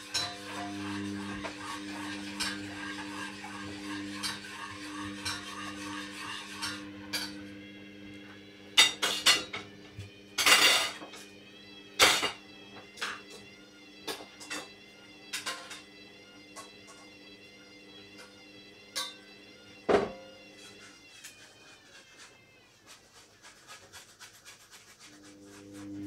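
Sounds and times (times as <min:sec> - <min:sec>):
washing machine motor hum: 0:00.0 - 0:23.6, 0:24.8 - 0:26.0.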